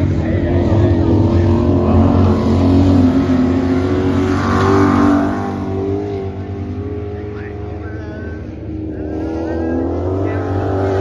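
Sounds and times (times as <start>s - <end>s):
race car engine passing: 0.0s - 11.0s.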